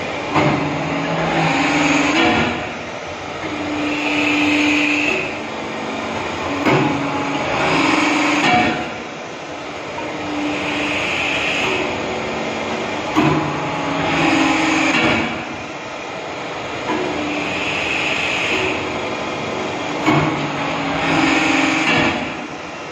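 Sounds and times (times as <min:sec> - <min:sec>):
hydraulic press clunk: 0:00.0 - 0:22.9
hydraulic pump whine: 0:00.0 - 0:22.9.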